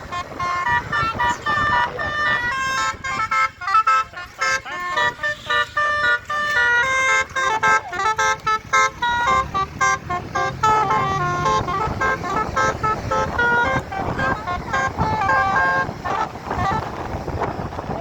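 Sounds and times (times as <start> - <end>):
musical bus horn melody: 0.0 - 18.0.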